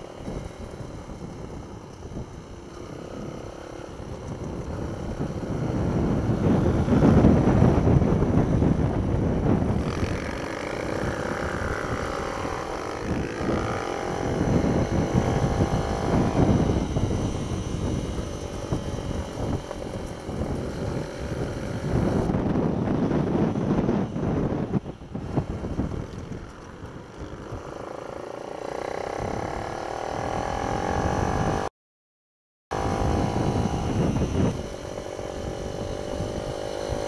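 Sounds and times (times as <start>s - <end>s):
small motorbike engine: 0.0s - 31.7s, 32.7s - 37.0s
wind noise on microphone: 0.0s - 31.7s, 32.7s - 37.0s.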